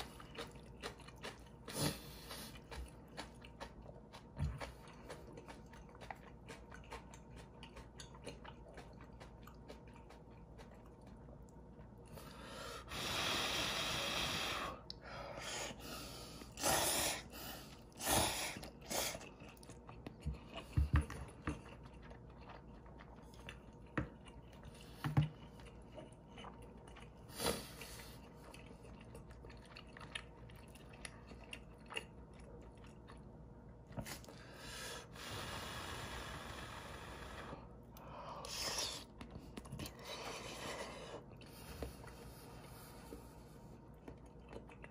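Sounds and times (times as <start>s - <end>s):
wet chewing: 0.0s - 12.3s, 16.3s - 34.5s, 37.9s - 44.9s.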